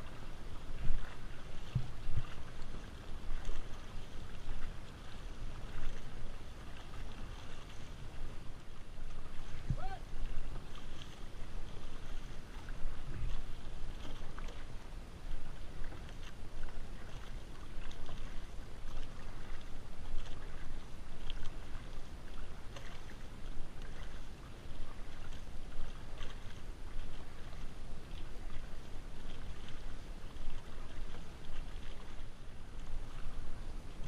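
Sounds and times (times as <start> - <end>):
paddles splashing in water: 0.0 - 34.0
water washing along hull: 0.0 - 34.0.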